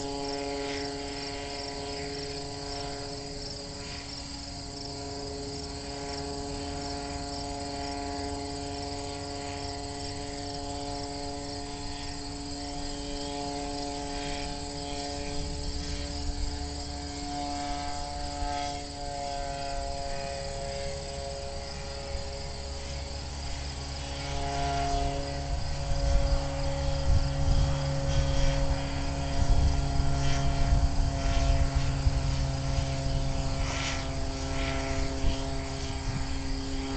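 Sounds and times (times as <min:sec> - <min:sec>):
crickets chirping: 0:00.0 - 0:36.9
motor droning overhead: 0:00.0 - 0:36.9.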